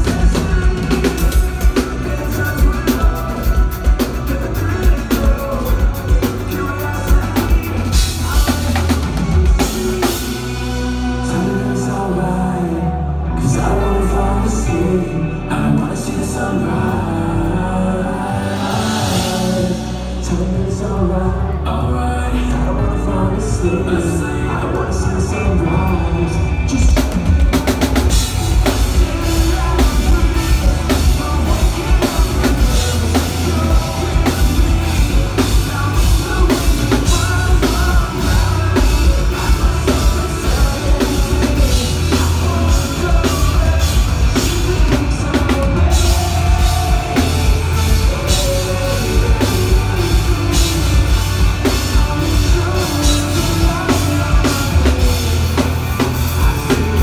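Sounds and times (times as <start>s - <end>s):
pounding drum kit: 0.0s - 11.9s, 17.4s - 57.0s
rock band playing: 0.0s - 57.0s.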